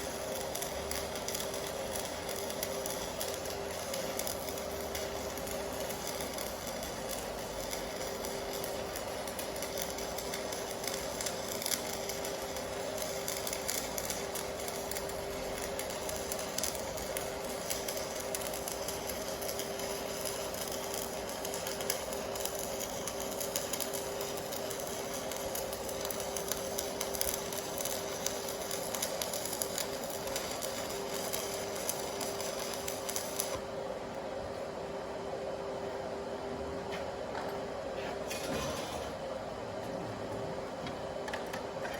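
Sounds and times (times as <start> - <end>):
welding arc crackling: 0.0 - 33.8
welder hum: 0.0 - 34.8.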